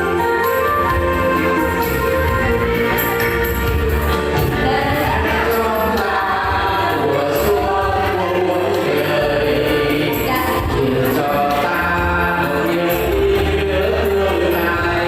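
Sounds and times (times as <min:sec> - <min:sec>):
backing band: 0:00.0 - 0:15.0
vocal group singing: 0:00.0 - 0:15.0.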